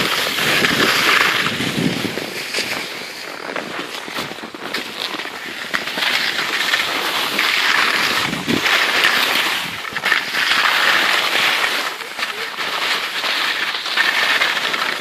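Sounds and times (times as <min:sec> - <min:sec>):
skis scraping over snow: 0:00.0 - 0:15.0.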